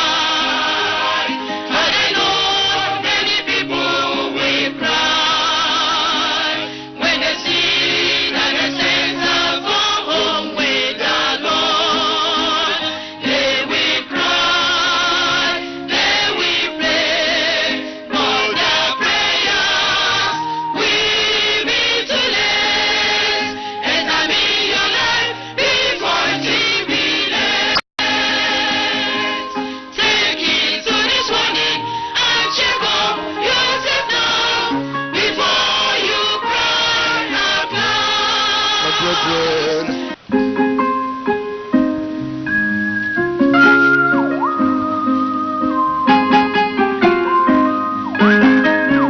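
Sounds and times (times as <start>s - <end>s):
gospel choir singing: 0.0s - 40.2s
instrumental accompaniment: 0.0s - 49.0s.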